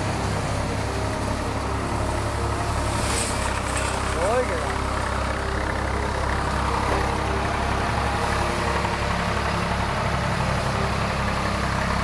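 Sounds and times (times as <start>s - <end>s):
threshing machine rushing: 0.0s - 10.8s
low engine drone: 0.0s - 12.0s.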